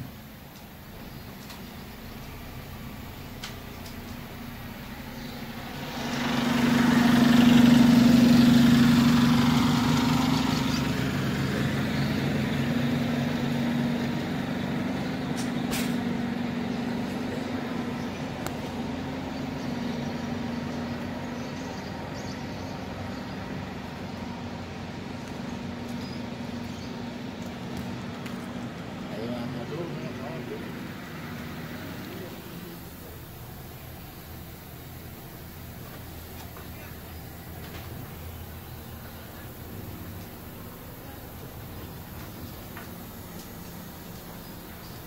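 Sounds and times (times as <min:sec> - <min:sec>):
bus diesel engine running: 0:00.0 - 0:45.0.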